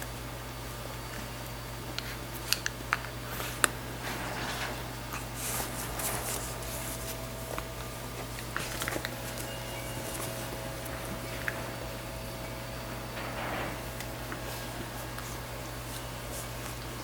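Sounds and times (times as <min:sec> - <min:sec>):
steady low hum: 0:00.0 - 0:17.0
rustling: 0:03.2 - 0:17.0.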